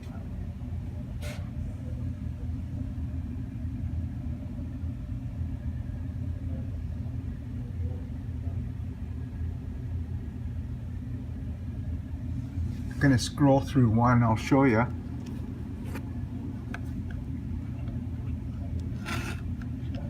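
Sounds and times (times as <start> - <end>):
machinery low rumble: 0.0 - 20.0.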